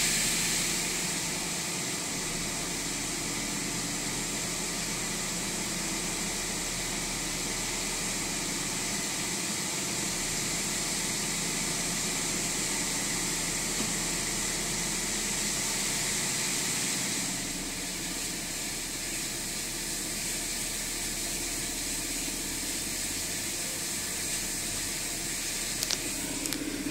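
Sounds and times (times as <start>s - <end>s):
engine idling roughly with hiss: 0.0s - 26.9s.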